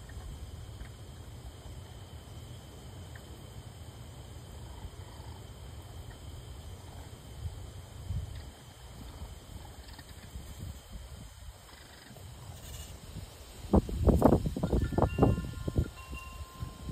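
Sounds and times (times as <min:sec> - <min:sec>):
continuous low rumble: 0:00.0 - 0:16.9.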